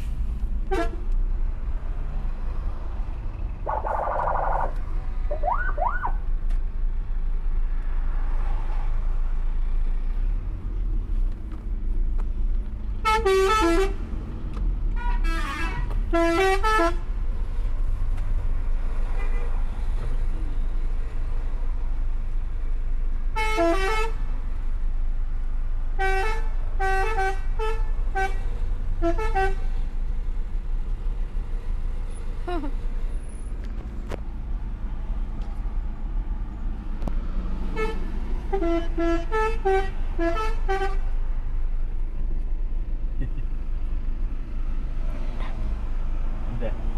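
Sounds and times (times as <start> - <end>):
low traffic rumble: 0.0 - 46.9.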